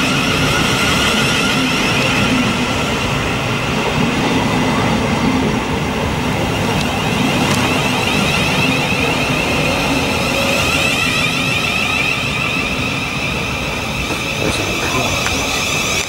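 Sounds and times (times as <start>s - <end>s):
high whining train tones: 0.0s - 16.0s
train wheels rumbling on rail: 0.0s - 16.0s.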